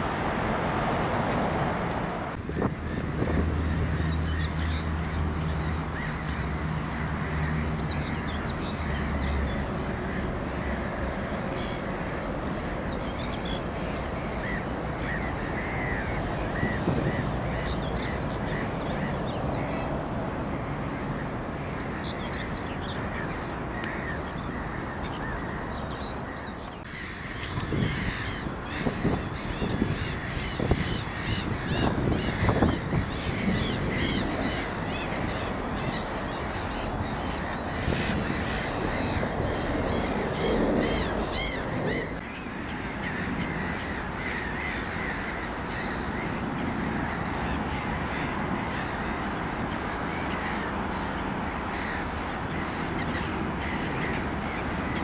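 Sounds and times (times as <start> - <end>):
birds calling and chirping: 0.0 - 55.0
outdoor background noise: 0.0 - 55.0.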